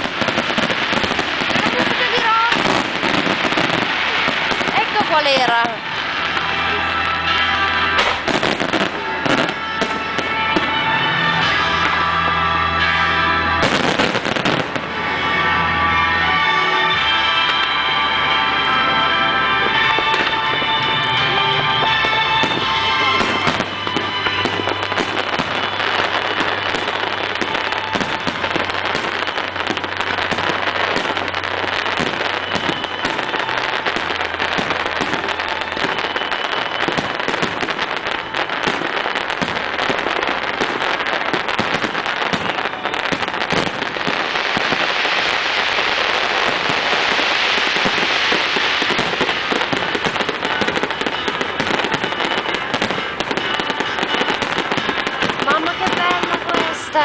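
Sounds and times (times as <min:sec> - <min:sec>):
fireworks bursts and crackling: 0:00.0 - 0:57.0.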